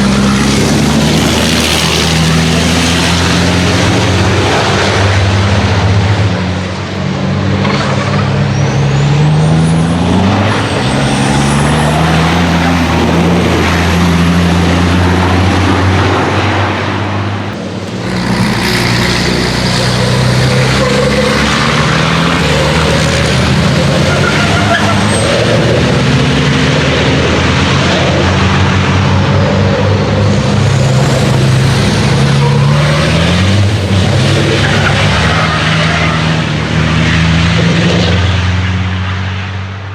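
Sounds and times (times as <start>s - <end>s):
truck diesel engines revving: 0.0s - 39.9s.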